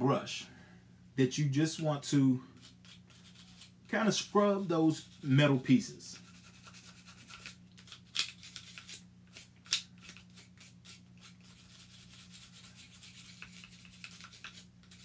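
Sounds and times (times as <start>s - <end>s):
brush scrubbing metal parts: 2.6s - 15.0s.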